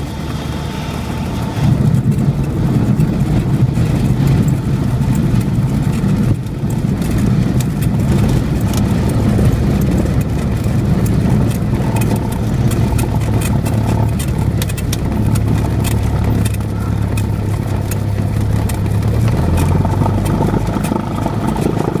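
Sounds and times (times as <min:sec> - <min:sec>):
piston aircraft engine at low power: 0:00.0 - 0:22.0.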